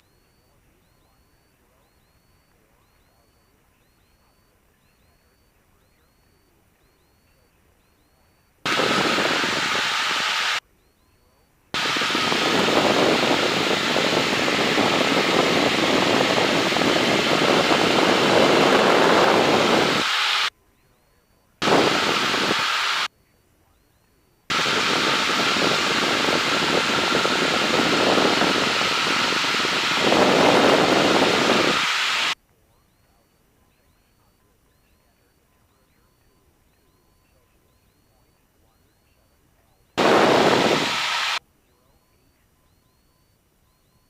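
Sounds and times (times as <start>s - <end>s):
light airplane cabin drone: 0.0s - 44.0s.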